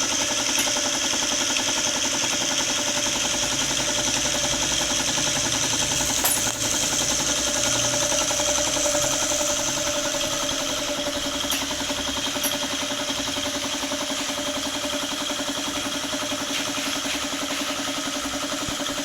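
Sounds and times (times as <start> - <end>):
diesel engine idling: 2.9 - 18.6.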